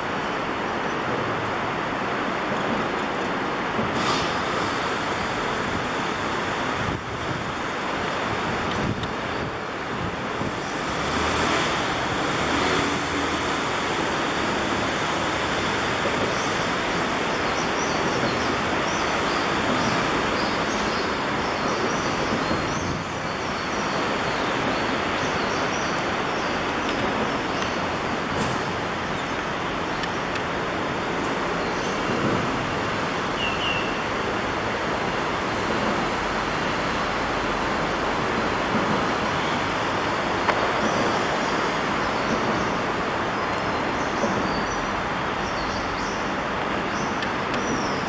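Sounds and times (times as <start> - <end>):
road traffic: 0.0 - 48.0
wind noise: 0.0 - 48.0.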